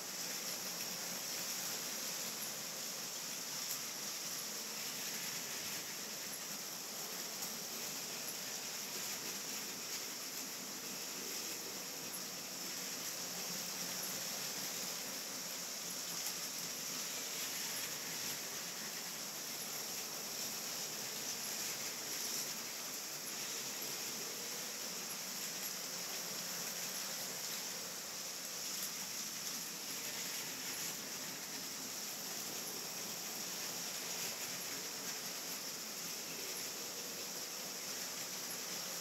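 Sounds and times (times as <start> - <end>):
toy trains rolling on plastic track: 0.0 - 27.8, 28.4 - 39.0.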